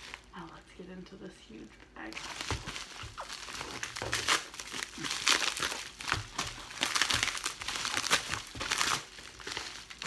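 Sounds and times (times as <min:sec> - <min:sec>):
crinkly packaging being opened: 0:00.0 - 0:00.8, 0:01.8 - 0:10.0.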